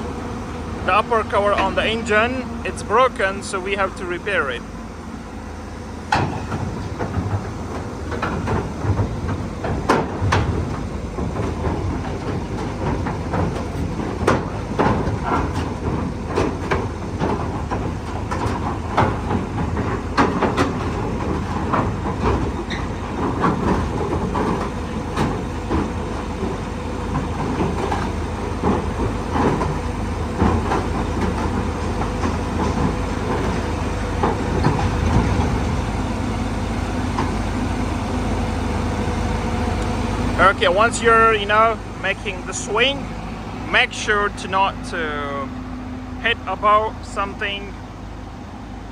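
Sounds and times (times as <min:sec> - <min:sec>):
excavator diesel engine running: 0:00.0 - 0:48.9
steel tracks clanking: 0:00.0 - 0:48.9.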